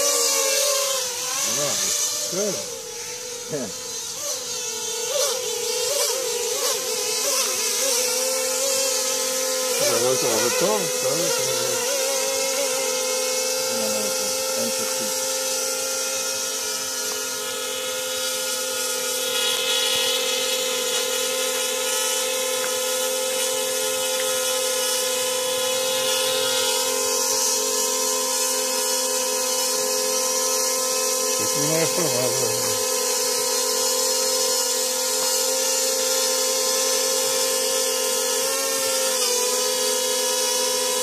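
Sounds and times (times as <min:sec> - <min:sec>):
quadcopter motors whining: 0:00.0 - 0:41.0.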